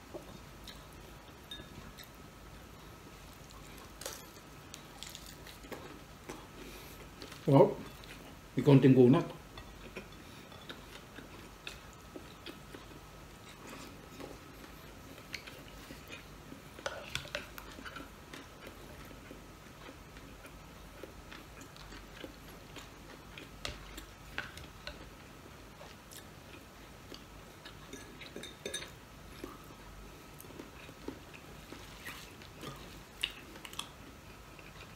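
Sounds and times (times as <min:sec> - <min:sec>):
person chewing food: 0:00.0 - 0:08.4, 0:09.5 - 0:34.9.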